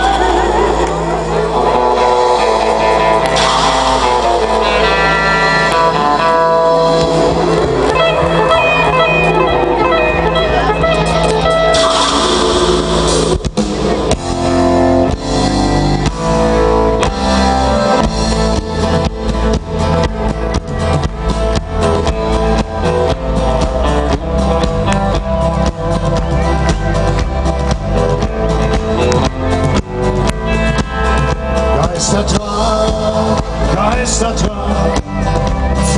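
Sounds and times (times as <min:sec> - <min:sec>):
country-rock band playing: 0:00.0 - 0:35.9.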